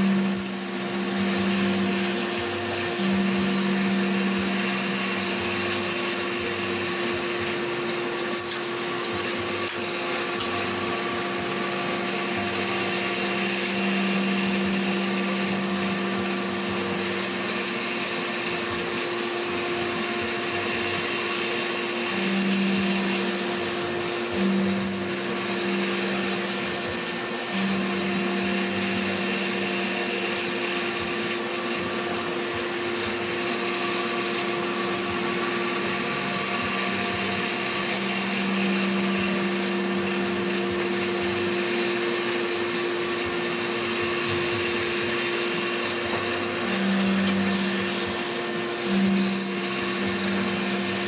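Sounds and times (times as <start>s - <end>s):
milling machine motor whine: 0.0s - 51.0s.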